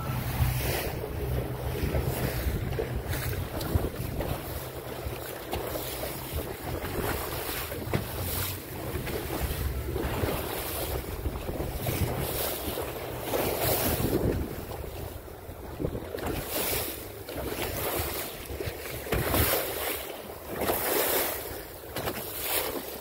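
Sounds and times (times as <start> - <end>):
wind buffeting microphone: 0.0 - 19.6
seawater washing along hull: 0.0 - 23.0.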